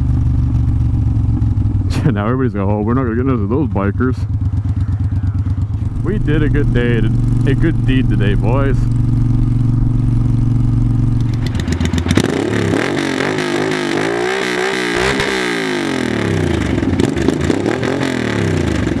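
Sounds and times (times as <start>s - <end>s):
motorcycle engine cruising: 0.0s - 19.0s
motorcycle engines revving: 0.0s - 19.0s.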